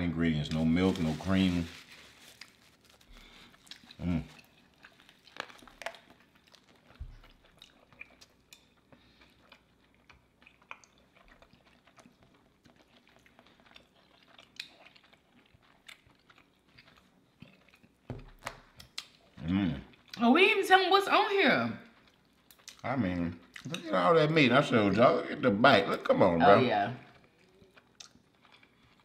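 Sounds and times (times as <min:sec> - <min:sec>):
chewing and crunching sandwich: 0:00.2 - 0:20.2, 0:21.8 - 0:24.7, 0:26.4 - 0:29.0.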